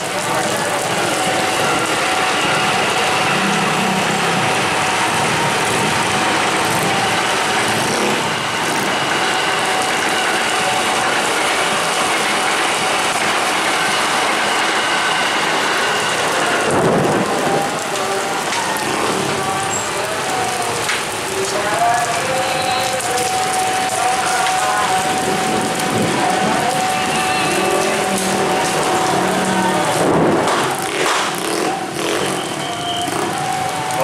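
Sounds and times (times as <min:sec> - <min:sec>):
heavy rain hiss: 0:00.0 - 0:34.0
motorcycles passing on wet road: 0:00.0 - 0:34.0
thunder rumbling: 0:00.0 - 0:34.0.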